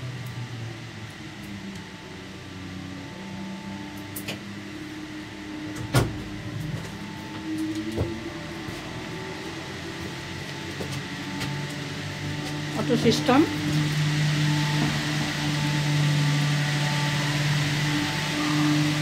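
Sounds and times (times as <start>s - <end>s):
cable car humming and whining: 0.0s - 19.0s.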